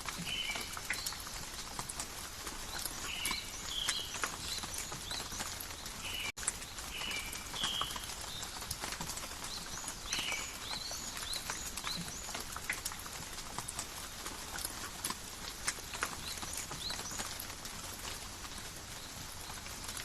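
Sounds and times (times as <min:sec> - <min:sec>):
forest rain: 0:00.0 - 0:20.0
raindrops tapping: 0:00.0 - 0:20.0.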